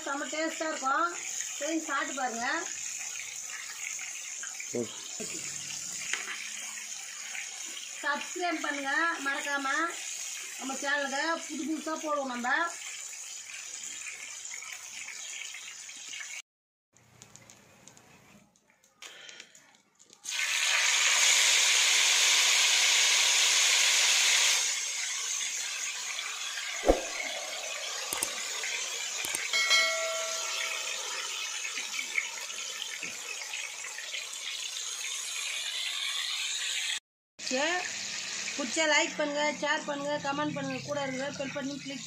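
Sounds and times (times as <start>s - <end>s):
fish sizzling in hot oil: 0.0s - 16.4s, 20.1s - 42.0s.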